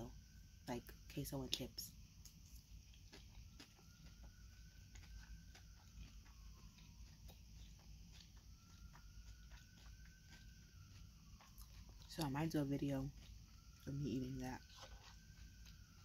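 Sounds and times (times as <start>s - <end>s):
chewing salad: 1.4s - 16.0s.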